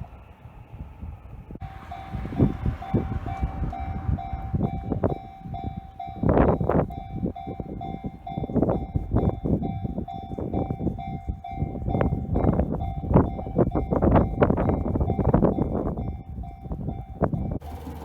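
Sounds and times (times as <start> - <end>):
railroad crossing warning bell: 0.0 - 18.0
train rumbling over rail joints: 0.0 - 18.0.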